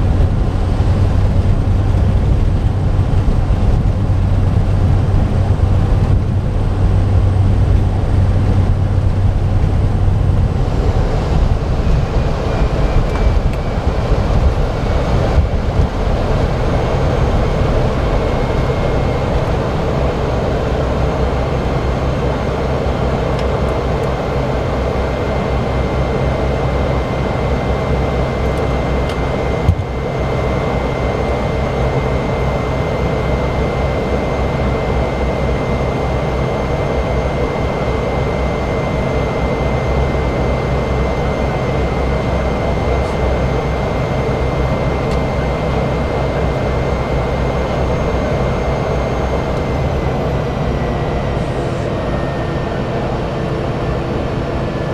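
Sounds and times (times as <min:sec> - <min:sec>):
turboprop engine drone and whine: 0:00.0 - 0:54.9.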